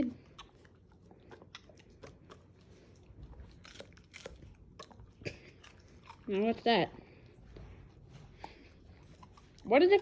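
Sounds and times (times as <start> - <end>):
dog chewing: 0.0 - 10.0.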